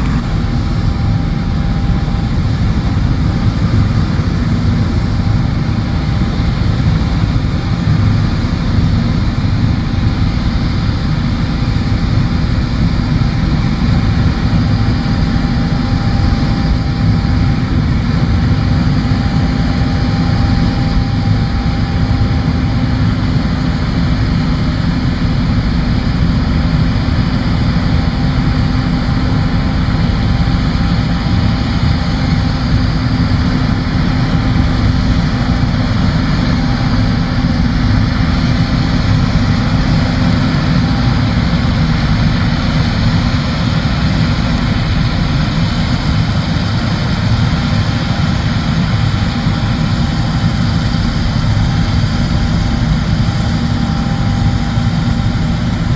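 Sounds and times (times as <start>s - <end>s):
combine harvester engine drone: 0.0s - 55.9s.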